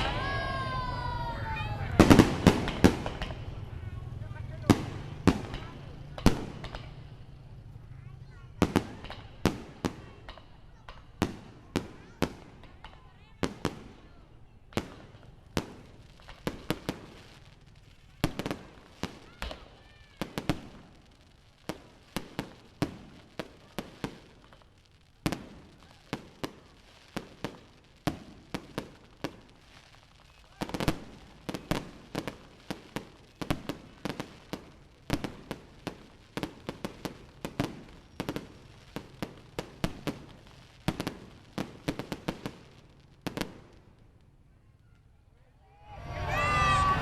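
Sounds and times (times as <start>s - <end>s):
fireworks bursting with sharp bangs: 0.0s - 47.0s
fireworks crackle: 0.0s - 47.0s.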